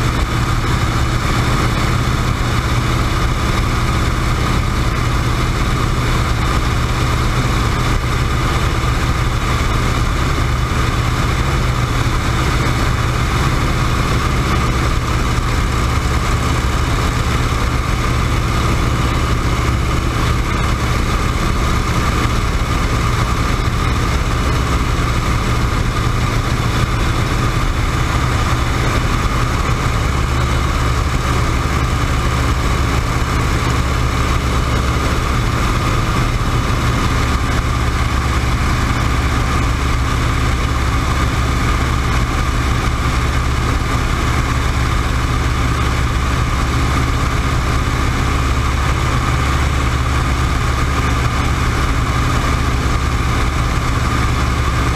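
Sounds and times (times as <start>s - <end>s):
radial engine and propeller droning: 0.0s - 54.9s.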